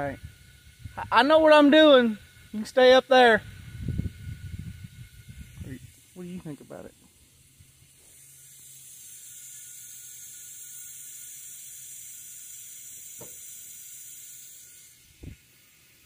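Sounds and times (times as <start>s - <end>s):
compressed air hissing: 0.0s - 16.0s.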